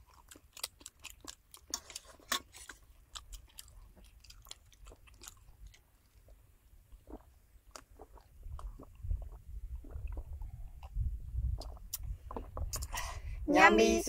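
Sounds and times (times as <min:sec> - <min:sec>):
crisp crunches of chewing: 0:00.0 - 0:13.0.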